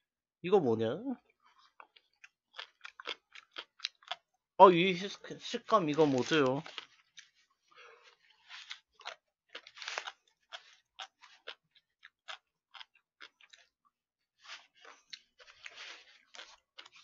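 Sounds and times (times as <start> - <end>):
crunchy chewing: 1.3 - 4.3, 6.0 - 17.0.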